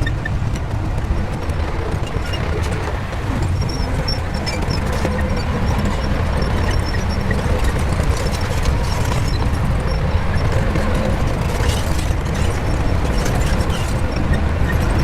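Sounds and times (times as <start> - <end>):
bulldozer diesel engine rumbling: 0.0 - 15.0
tracks clanking and rattling: 0.0 - 15.0.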